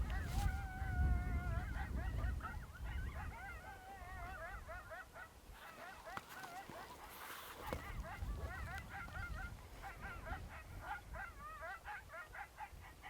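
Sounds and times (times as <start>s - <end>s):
wind rumble on microphone: 0.0s - 5.0s, 5.6s - 13.0s
coyotes yipping and howling: 0.0s - 13.0s.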